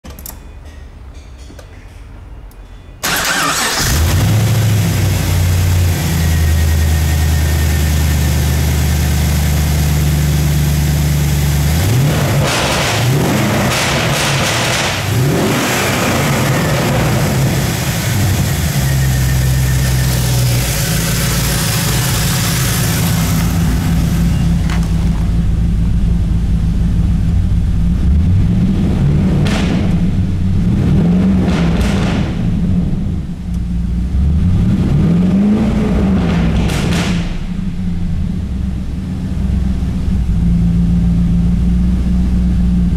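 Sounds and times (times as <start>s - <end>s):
car engine starting and idling: 3.0s - 42.9s
car engine revving: 3.2s - 38.4s.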